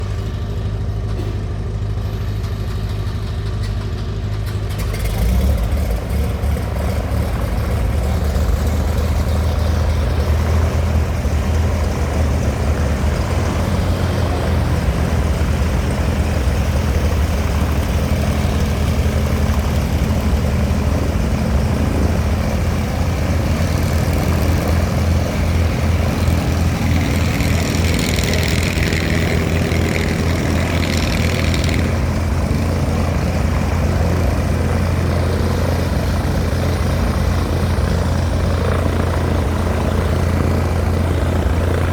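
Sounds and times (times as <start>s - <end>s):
propeller plane engine running: 0.0s - 41.9s.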